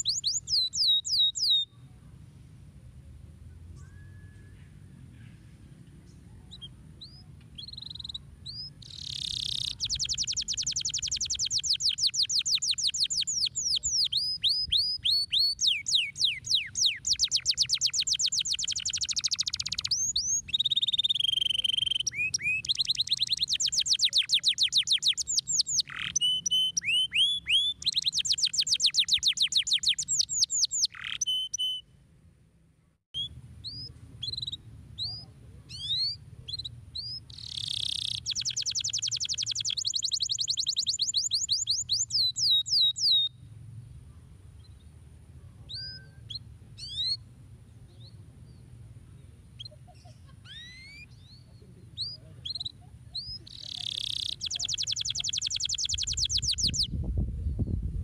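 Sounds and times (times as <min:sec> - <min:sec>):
canary chirps: 0:00.0 - 0:01.8, 0:06.4 - 0:31.9, 0:33.2 - 0:43.4, 0:45.6 - 0:47.3, 0:49.5 - 0:56.9
canary singing trills: 0:00.0 - 0:01.8, 0:06.1 - 0:31.8, 0:33.2 - 0:43.4, 0:45.5 - 0:47.3, 0:49.4 - 0:57.0.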